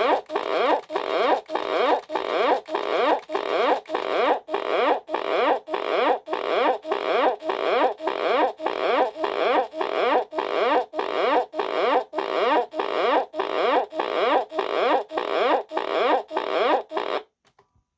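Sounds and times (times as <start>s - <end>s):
cassette recorder sputtering pulses: 0.0s - 17.2s.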